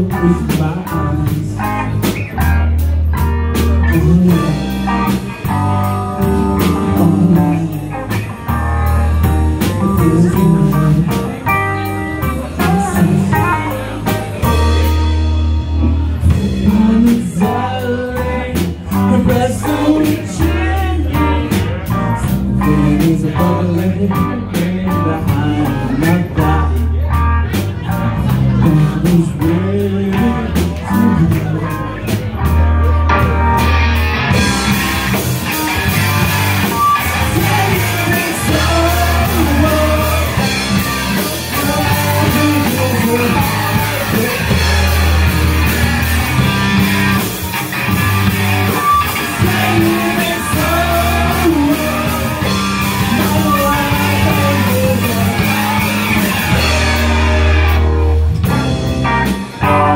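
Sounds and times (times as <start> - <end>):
man singing: 0.0 - 33.2, 34.3 - 47.2, 48.6 - 59.9
live rock band: 0.0 - 59.9.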